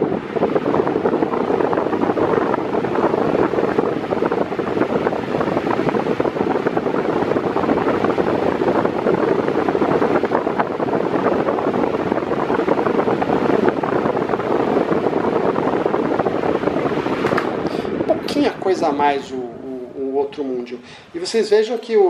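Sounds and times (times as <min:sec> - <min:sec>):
fan blowing air: 0:00.0 - 0:22.0.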